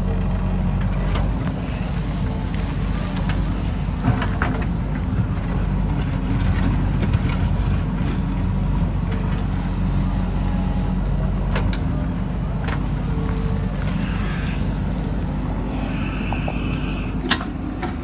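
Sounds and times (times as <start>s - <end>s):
backhoe diesel engine rumbling: 0.0s - 18.0s.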